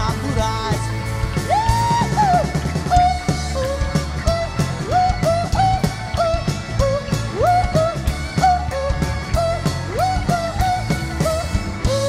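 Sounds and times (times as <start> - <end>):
rock band music: 0.0 - 12.0
sliding lead melody: 0.0 - 12.0
steady drum beat: 0.0 - 12.0.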